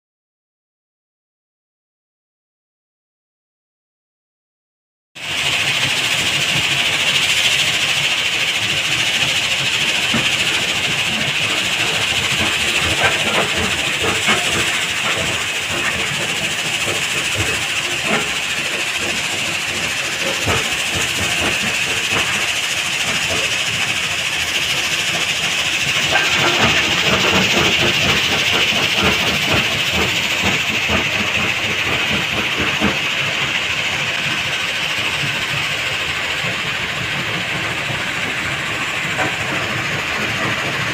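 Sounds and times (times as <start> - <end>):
stone crusher and excavator running: 5.2 - 40.9.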